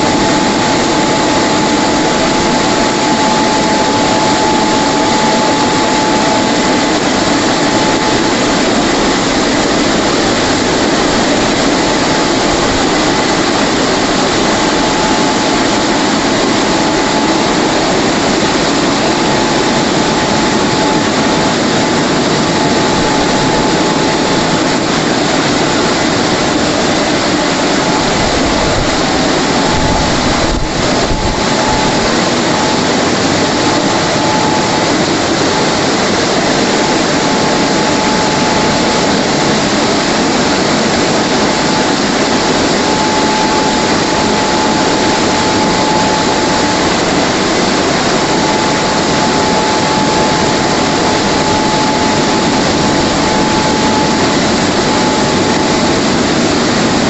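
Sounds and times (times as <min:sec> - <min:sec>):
dryer blowers rushing air: 0:00.0 - 0:57.0
steady whine: 0:00.0 - 0:57.0.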